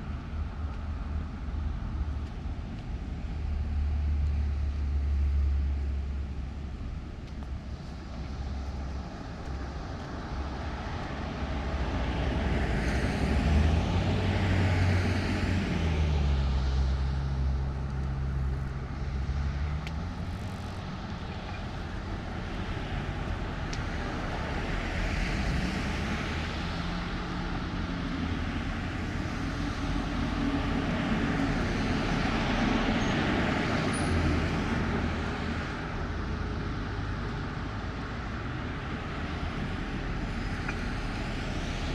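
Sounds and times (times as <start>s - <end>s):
passing motor vehicles: 0.0s - 41.9s.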